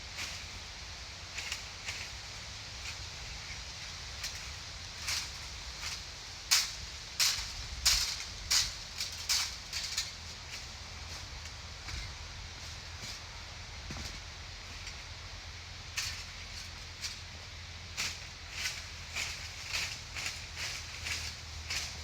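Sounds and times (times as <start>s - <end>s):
rake scraping through leaves: 0.0s - 22.0s.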